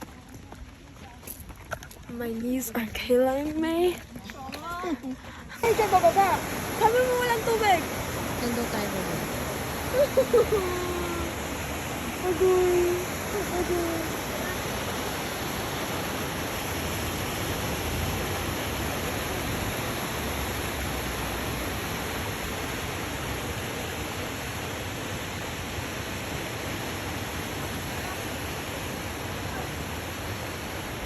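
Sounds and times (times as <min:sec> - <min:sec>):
waterfall rushing: 0:05.5 - 0:31.0.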